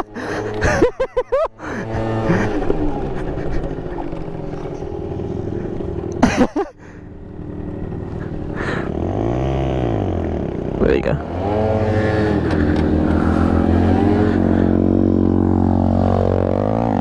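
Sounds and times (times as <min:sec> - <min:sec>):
small motorbike engine running: 0:00.0 - 0:17.0.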